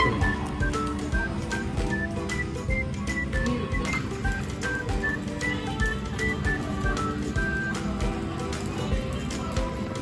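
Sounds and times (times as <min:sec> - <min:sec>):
bright melody over steady beat: 0:00.0 - 0:10.0.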